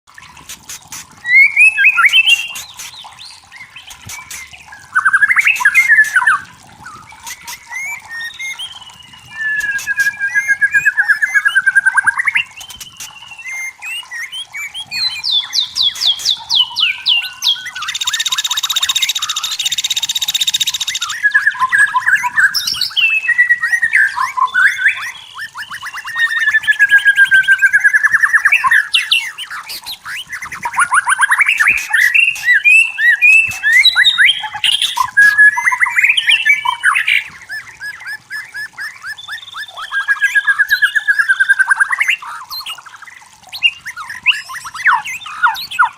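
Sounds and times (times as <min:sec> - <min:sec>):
bird singing whistles and trills: 0:00.8 - 0:45.9.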